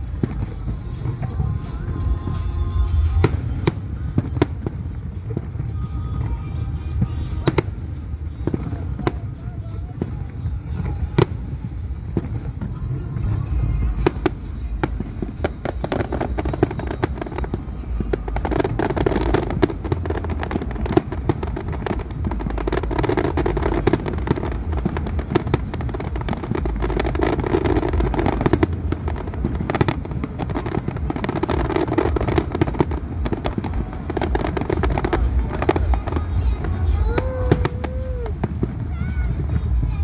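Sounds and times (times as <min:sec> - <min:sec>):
fireworks bangs and crackles: 0:00.0 - 0:40.0
low rumble: 0:00.0 - 0:40.0.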